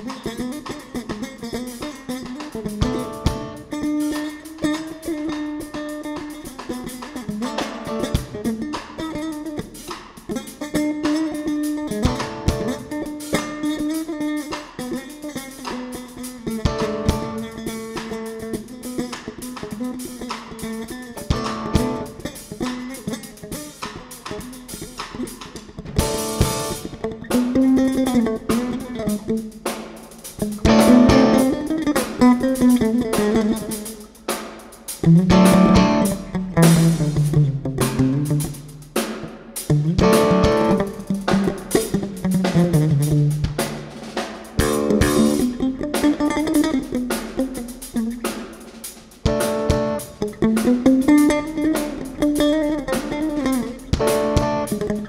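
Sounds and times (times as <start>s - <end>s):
drums: 0.0s - 55.0s
electric bass guitar: 0.0s - 55.0s
electric guitar: 0.0s - 55.0s
jazz band playing: 2.2s - 55.0s.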